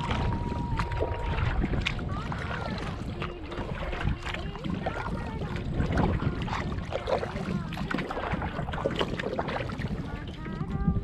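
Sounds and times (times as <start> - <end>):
paddle strokes splashing water: 0.0 - 11.0
wind buffeting microphone: 0.0 - 11.0.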